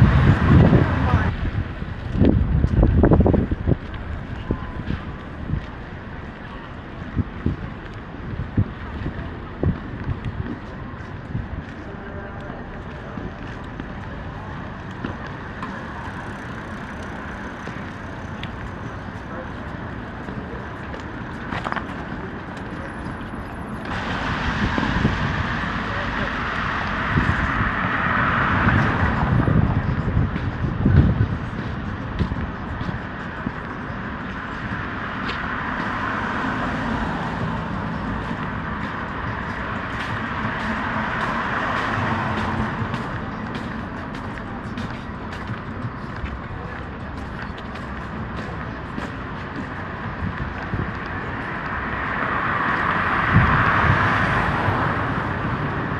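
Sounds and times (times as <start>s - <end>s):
vehicles passing on city street: 0.0s - 55.9s.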